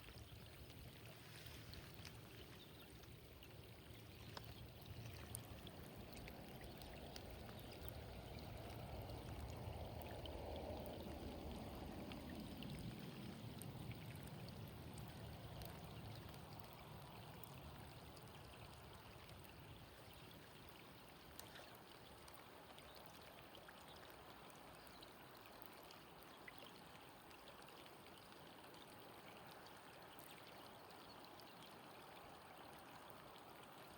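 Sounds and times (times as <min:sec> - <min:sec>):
running water: 0:00.0 - 0:33.9.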